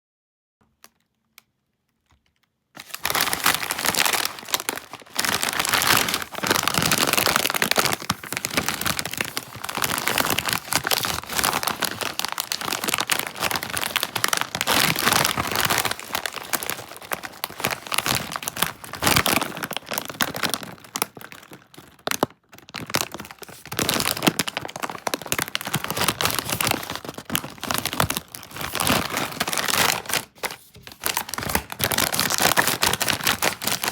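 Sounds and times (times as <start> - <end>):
foil chip bag crinkling: 2.8 - 33.9.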